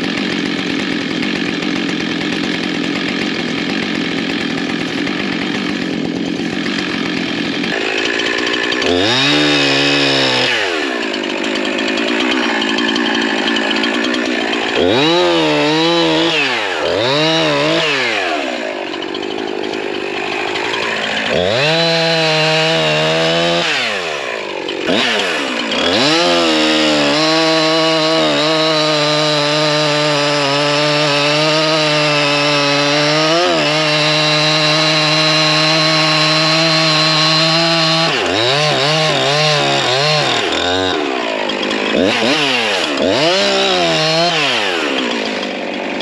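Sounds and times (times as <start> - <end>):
chainsaw cutting wood: 0.0 - 46.0
chainsaw revving: 0.0 - 46.0.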